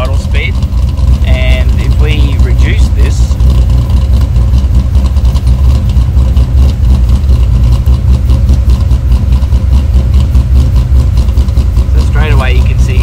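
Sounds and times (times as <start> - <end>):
car engine idling unevenly: 0.0 - 13.0.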